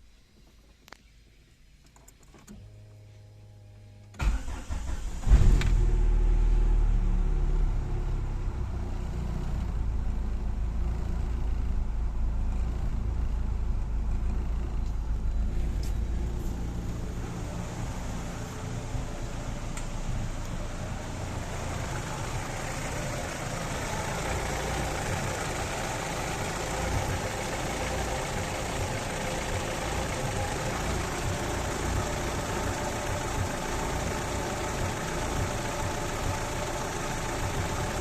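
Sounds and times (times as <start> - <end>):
car engine revving and idling: 2.8 - 38.0.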